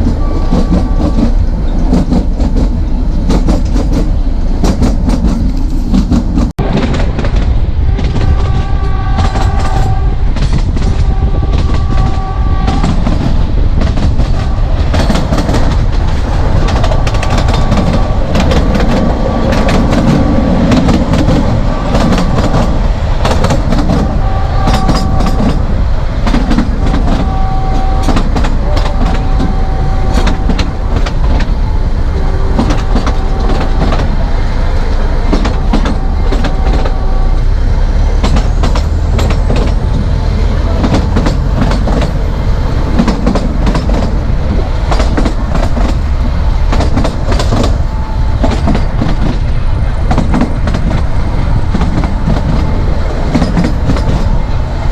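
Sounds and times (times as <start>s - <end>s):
wheels clicking over rail joints: 0.0s - 31.6s, 38.1s - 54.5s
train rumbling: 0.0s - 54.9s.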